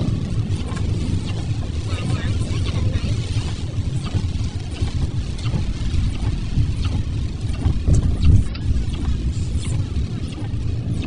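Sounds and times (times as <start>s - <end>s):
tyres hissing on wet pavement: 0.0s - 10.9s
engine and road rumble: 0.0s - 11.0s.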